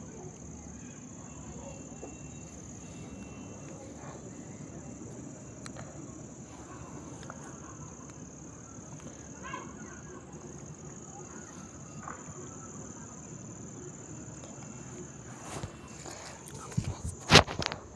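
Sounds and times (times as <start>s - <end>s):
insects trilling: 0.0s - 17.9s
low background hum: 0.0s - 17.9s.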